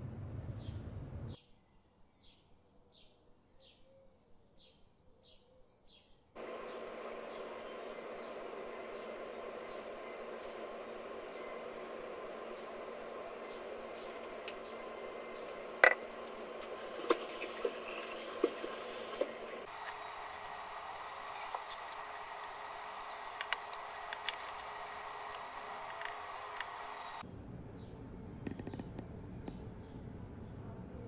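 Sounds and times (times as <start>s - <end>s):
background hum: 0.0s - 1.4s, 6.4s - 31.0s.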